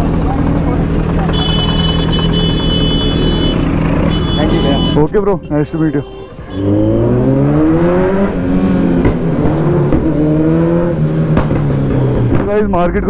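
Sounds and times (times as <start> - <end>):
motorcycle engine accelerating: 0.0 - 5.0, 6.6 - 13.0.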